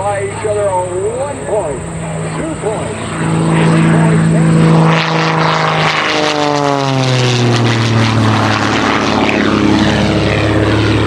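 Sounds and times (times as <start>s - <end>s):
biplane propeller drone: 0.0s - 11.0s.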